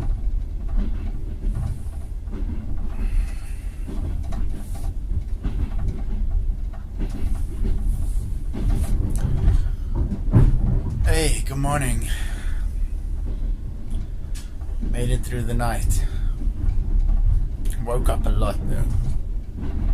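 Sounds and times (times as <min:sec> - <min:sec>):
knocks and rattles: 0:00.0 - 0:19.9
train carriage rumbling on rails: 0:00.0 - 0:19.9.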